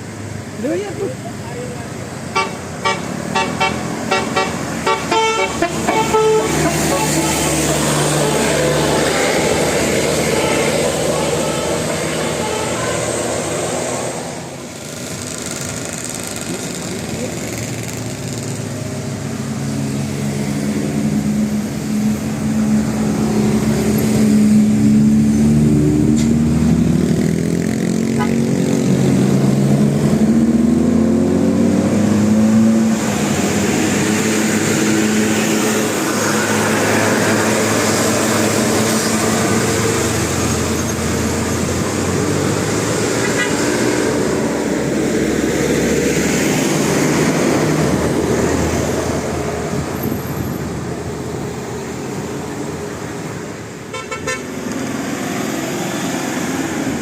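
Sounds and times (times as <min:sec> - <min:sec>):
bus engine revving: 0:00.0 - 0:57.0
passing traffic rush: 0:00.0 - 0:57.0.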